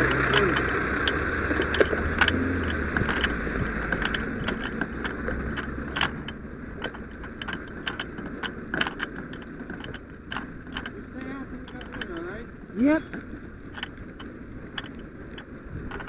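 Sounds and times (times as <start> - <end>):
fire engine diesel engine running: 0.0 - 16.0.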